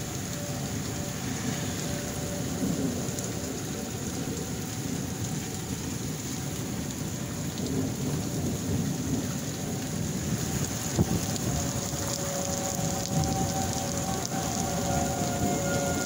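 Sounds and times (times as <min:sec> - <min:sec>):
steady rain: 0:00.0 - 0:16.0
wind gusting over microphone: 0:00.0 - 0:16.0.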